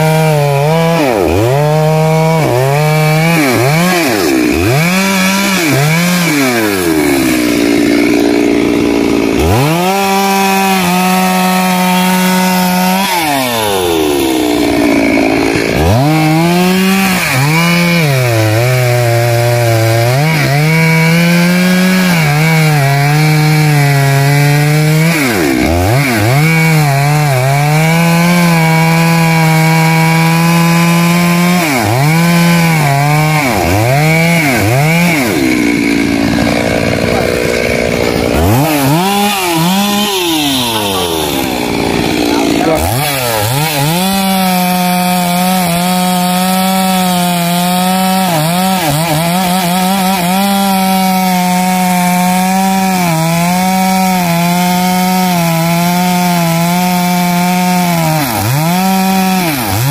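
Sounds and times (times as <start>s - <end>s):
chainsaw cutting through wood: 0.0s - 59.9s.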